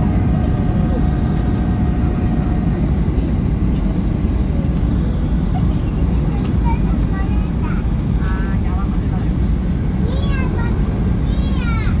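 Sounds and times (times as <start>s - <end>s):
jet engines from inside cabin: 0.0s - 12.0s.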